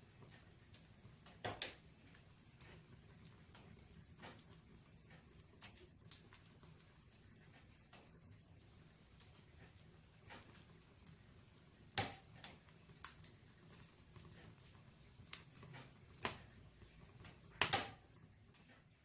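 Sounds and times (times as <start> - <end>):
firewood crackling and popping: 0.0 - 19.0.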